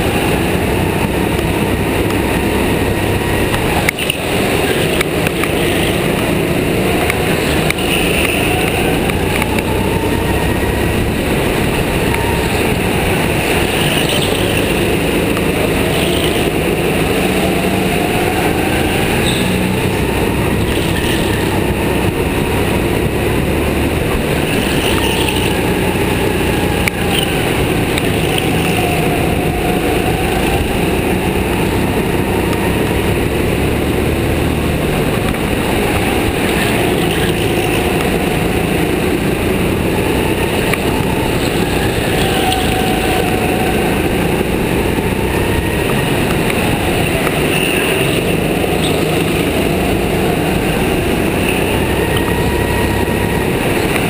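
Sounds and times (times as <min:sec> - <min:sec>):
go-kart engine racing: 0:00.0 - 0:54.0.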